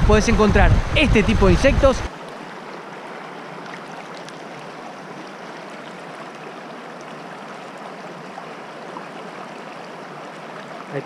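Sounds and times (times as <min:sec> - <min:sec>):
stream running over stones: 0:02.1 - 0:11.0.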